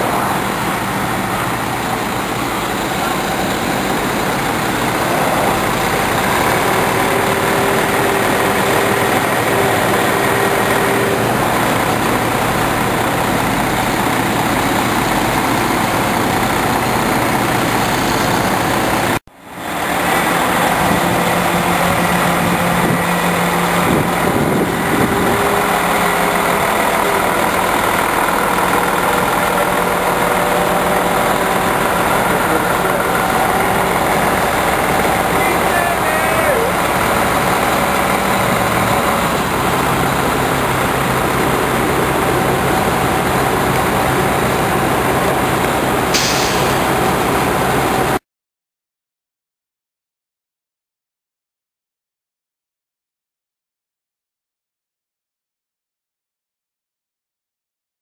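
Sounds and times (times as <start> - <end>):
heavy equipment engines running: 0.0 - 48.2.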